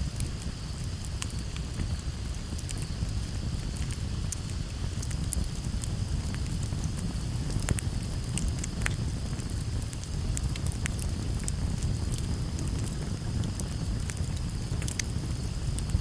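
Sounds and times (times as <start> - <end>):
low rumble of flames: 0.0 - 16.0
wood crackling and popping: 0.0 - 16.0.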